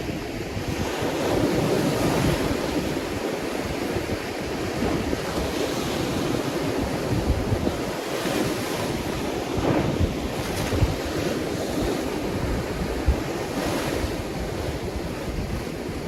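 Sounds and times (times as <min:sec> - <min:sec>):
ocean waves breaking: 0:00.0 - 0:16.0
wind rumbling on microphone: 0:00.0 - 0:16.0.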